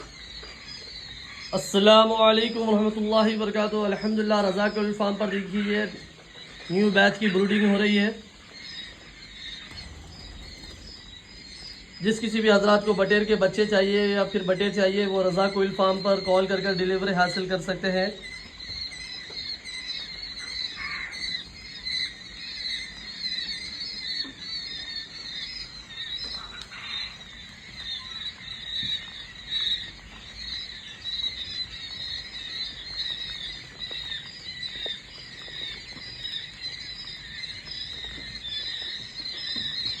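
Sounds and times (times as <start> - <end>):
quail chicks cheeping: 0.0 - 40.0.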